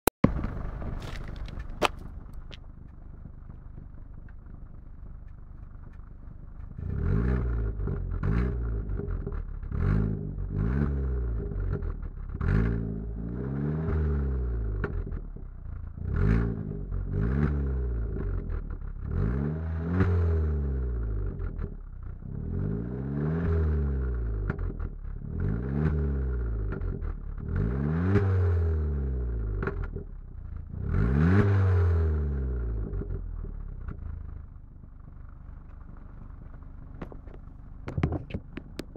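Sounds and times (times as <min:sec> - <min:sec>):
car engine idling and revving: 0:00.2 - 0:38.9.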